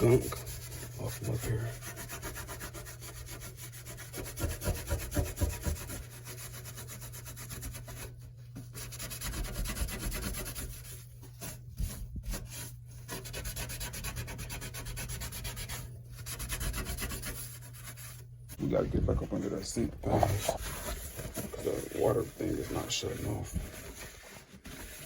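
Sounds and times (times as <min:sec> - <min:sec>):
scrubbing strokes: 0:00.0 - 0:25.0.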